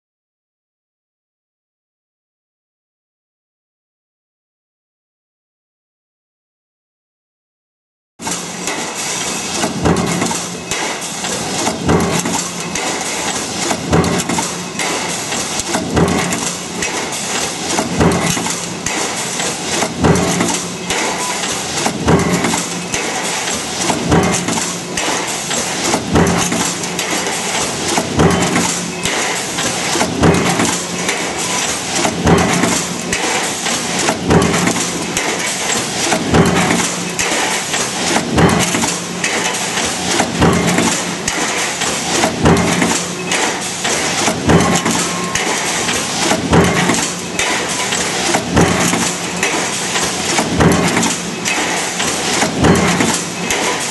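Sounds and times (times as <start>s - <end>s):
power press stamping metal: 8.2s - 53.9s
steady machine hum: 8.2s - 53.9s.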